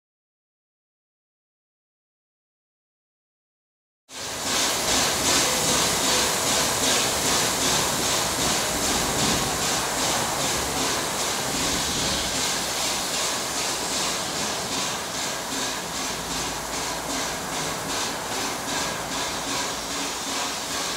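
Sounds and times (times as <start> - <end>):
steam locomotive hissing: 4.1 - 20.9.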